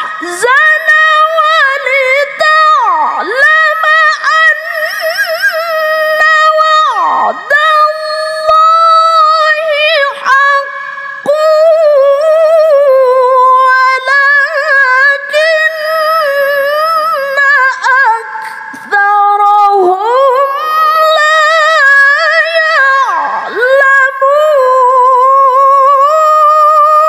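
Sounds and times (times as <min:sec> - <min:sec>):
woman reciting melodically: 0:00.0 - 0:27.0.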